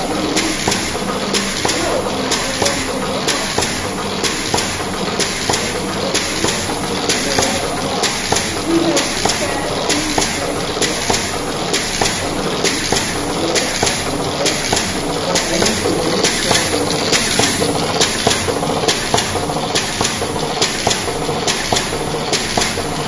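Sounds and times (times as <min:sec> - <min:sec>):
machinery clicking: 0:00.0 - 0:23.0
workshop background noise: 0:00.0 - 0:23.0.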